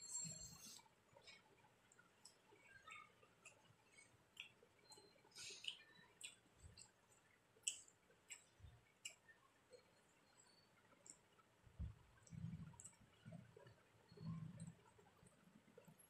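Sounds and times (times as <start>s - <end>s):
soft chewing: 0.0s - 16.0s.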